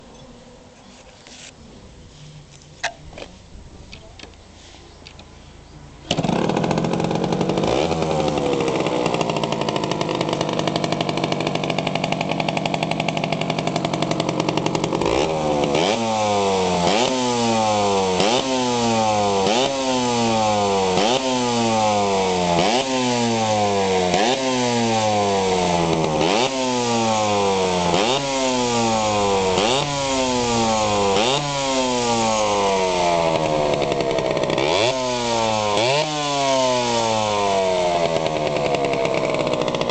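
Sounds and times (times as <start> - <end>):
two-stroke engine idling and revving: 5.9 - 39.9.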